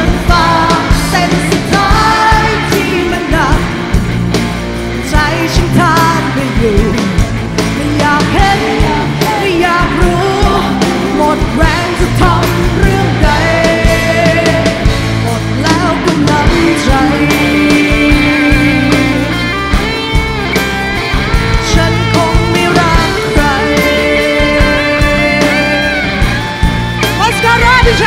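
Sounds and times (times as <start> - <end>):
woman singing: 0.0 - 3.8, 5.0 - 19.5, 21.5 - 26.2, 27.2 - 28.0
drums: 0.0 - 28.0
electric guitars: 0.0 - 28.0.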